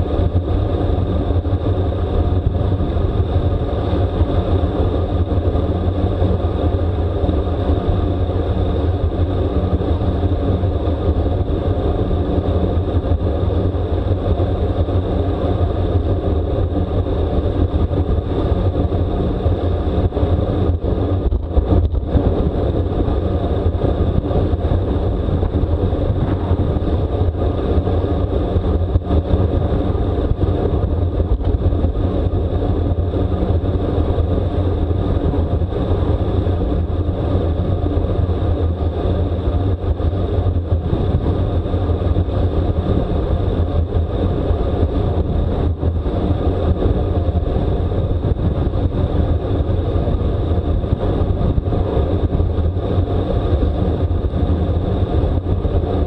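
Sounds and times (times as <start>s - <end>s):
bicycle tyre and road noise: 0.0s - 56.0s
wind rush on microphone: 0.0s - 56.0s.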